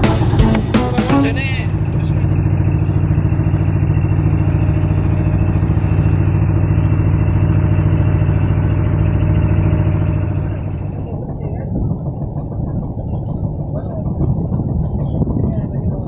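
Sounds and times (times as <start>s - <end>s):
small engine chugging: 0.0s - 16.0s.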